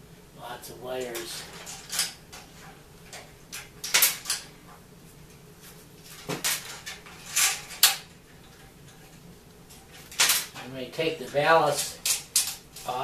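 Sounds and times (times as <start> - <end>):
clatter of handling wiring: 1.0 - 5.4, 6.0 - 13.0.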